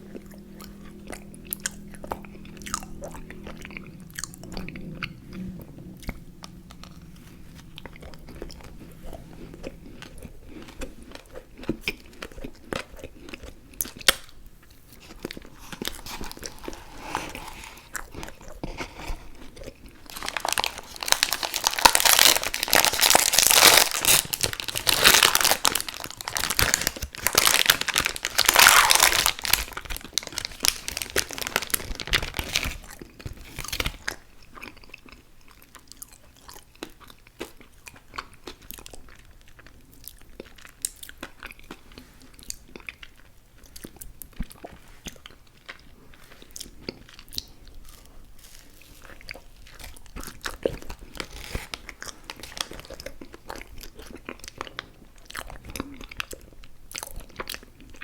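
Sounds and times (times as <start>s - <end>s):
chewing chewy candy: 0.0s - 58.0s.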